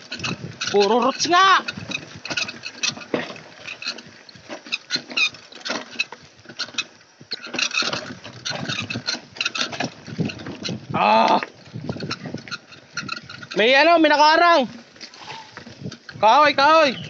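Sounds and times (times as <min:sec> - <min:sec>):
bike clattering over roots: 0:00.0 - 0:17.0
rustling tyre noise: 0:00.0 - 0:17.0.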